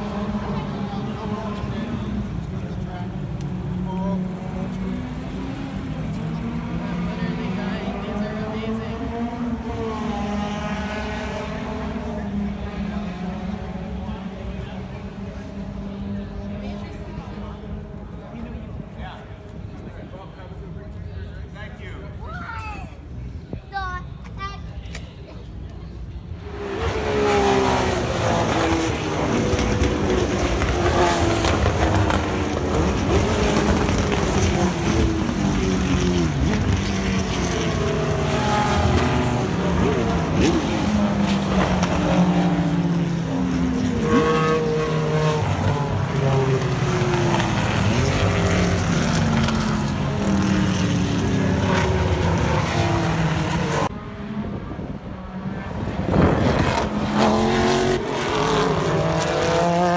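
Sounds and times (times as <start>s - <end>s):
race car engines revving: 0.0s - 22.2s, 22.9s - 59.9s.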